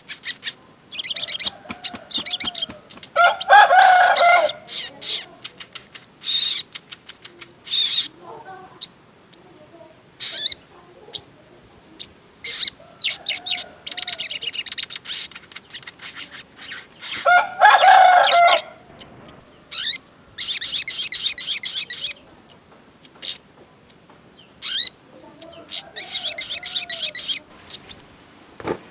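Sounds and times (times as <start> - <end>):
songbird singing chirps and trills: 0.0 - 28.8.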